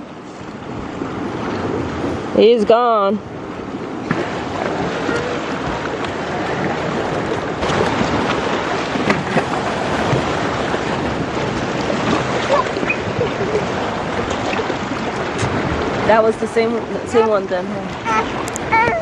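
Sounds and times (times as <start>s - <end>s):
wind on microphone: 0.0s - 19.0s
water washing against rocky shore: 3.3s - 19.0s.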